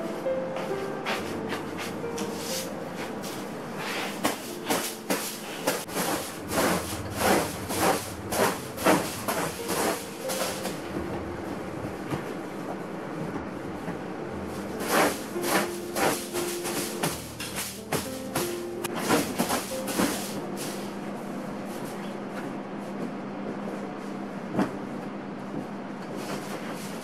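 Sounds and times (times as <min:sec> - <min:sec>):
soft background music: 0:00.0 - 0:23.8.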